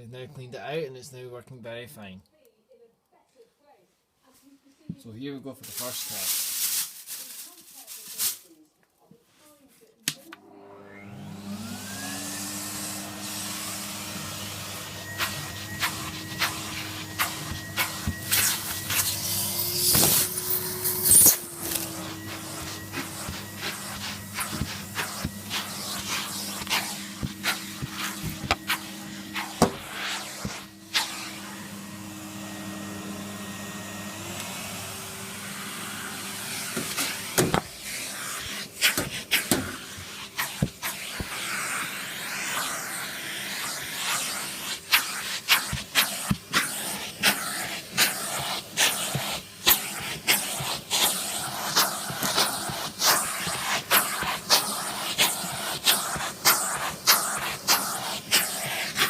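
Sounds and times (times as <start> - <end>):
vacuum cleaner motor hum: 10.4 - 59.0.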